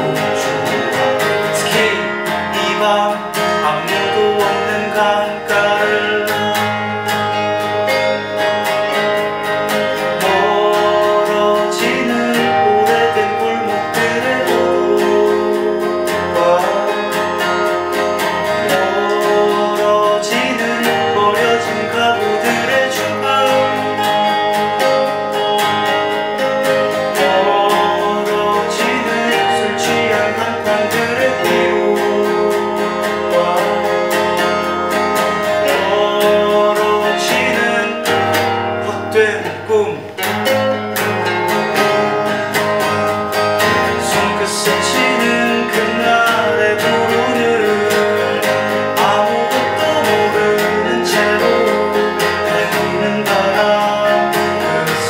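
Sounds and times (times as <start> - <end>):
man singing: 0.0 - 9.2, 9.8 - 42.5, 43.4 - 55.0
clean electric guitar picking: 0.0 - 55.0
strummed acoustic guitar: 0.0 - 55.0.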